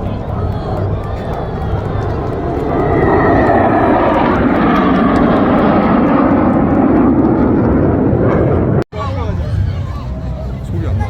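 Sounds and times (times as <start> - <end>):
aircraft engine noise: 0.0 - 11.0.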